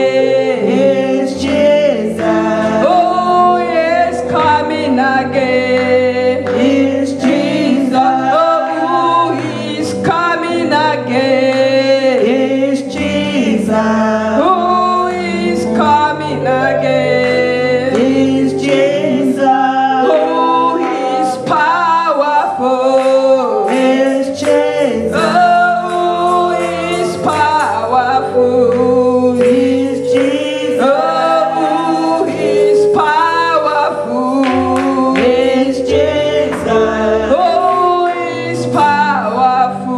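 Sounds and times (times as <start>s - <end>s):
gospel choir singing: 0.0s - 39.9s
low accompaniment: 0.0s - 39.9s.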